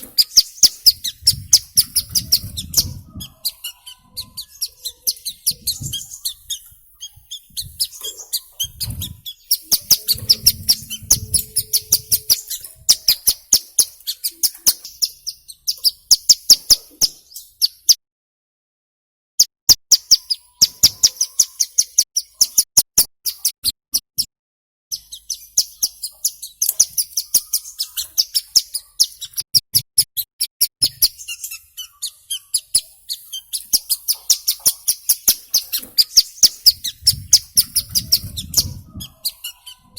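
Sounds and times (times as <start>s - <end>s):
bird sharp high chirps: 0.0s - 18.0s, 19.7s - 23.6s, 24.9s - 39.9s.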